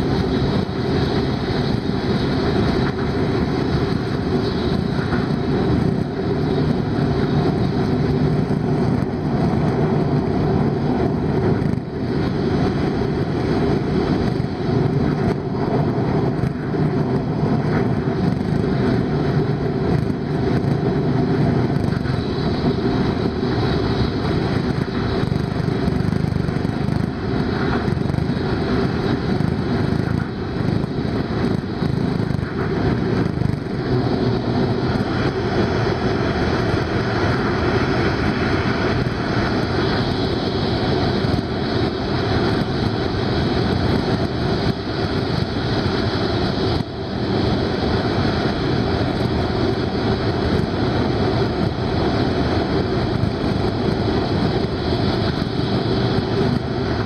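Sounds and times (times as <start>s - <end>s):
train rumbling at high speed: 0.0s - 57.0s.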